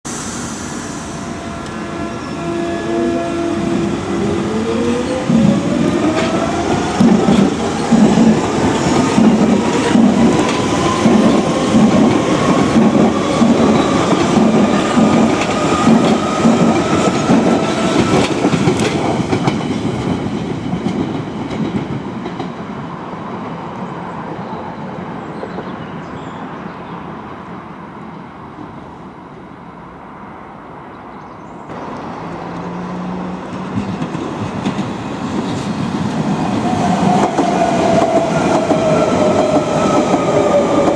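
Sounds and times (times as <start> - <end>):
train approaching: 0.0 - 40.9.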